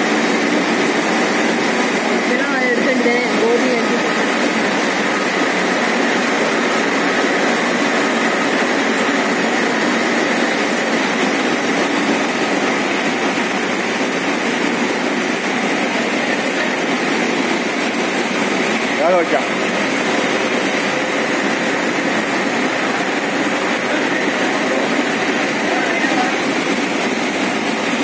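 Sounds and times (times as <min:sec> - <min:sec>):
factory machinery din: 0:00.0 - 0:28.0.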